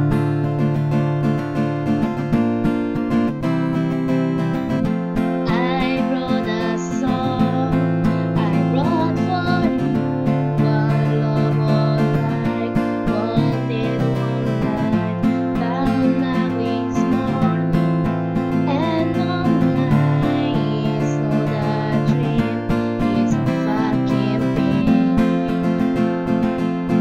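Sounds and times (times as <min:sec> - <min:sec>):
acoustic guitar strummed: 0:00.0 - 0:27.0.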